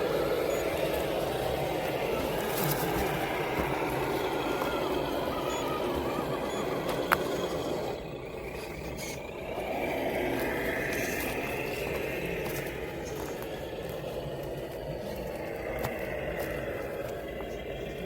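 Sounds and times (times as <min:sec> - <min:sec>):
electric motor and gearbox whining: 0:00.0 - 0:18.0.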